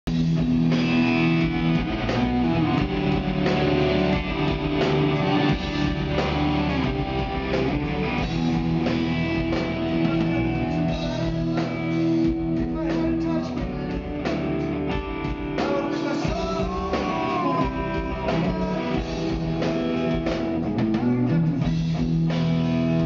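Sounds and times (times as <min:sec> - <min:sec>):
bass guitar: 0:00.0 - 0:23.0
drums: 0:00.0 - 0:23.0
electric guitars: 0:00.1 - 0:23.0.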